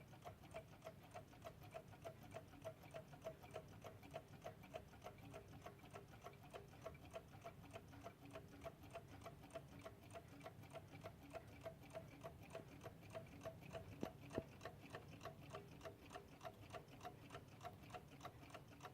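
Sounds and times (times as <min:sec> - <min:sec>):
clock ticking faintly: 0:00.0 - 0:18.9.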